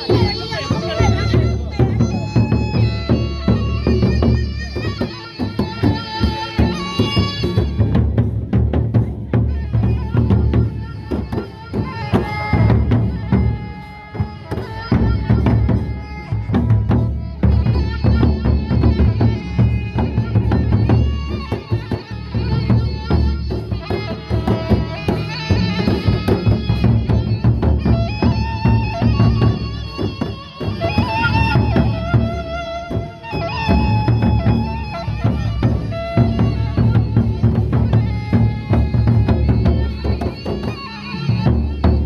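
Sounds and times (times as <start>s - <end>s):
barrel drums beating: 0.0s - 42.0s.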